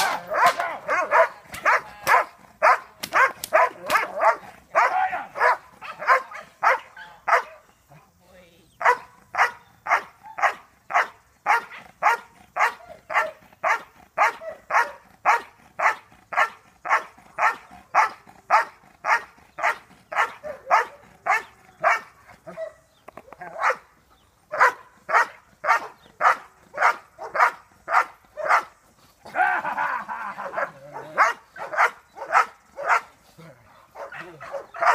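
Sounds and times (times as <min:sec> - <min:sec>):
large dog barking: 0:00.0 - 0:07.6, 0:08.8 - 0:28.8, 0:29.5 - 0:34.9.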